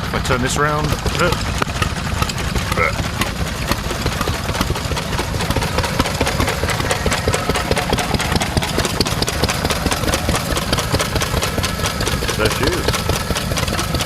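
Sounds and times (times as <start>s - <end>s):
stationary engines clattering: 0.0s - 14.0s.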